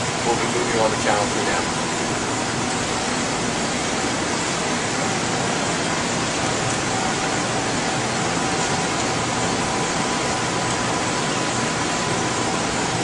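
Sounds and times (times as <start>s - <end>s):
fans and air handling rushing: 0.0s - 13.0s.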